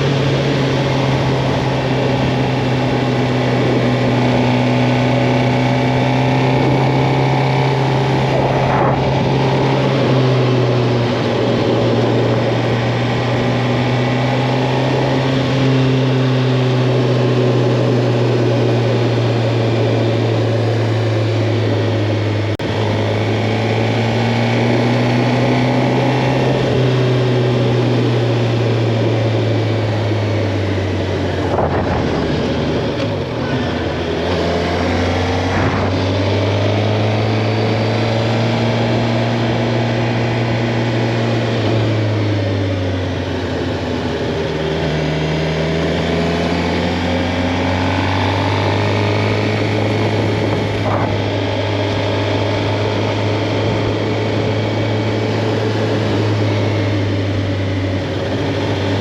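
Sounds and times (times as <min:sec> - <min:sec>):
wind noise: 0:00.0 - 0:16.4, 0:17.5 - 0:42.9, 0:47.2 - 0:59.0
motorcycle engine cruising: 0:00.0 - 0:59.0.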